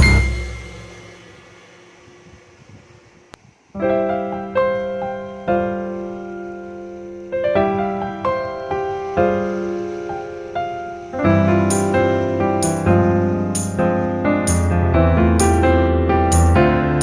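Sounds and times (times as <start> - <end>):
slow piano chords: 0.0 - 2.0, 3.7 - 17.0.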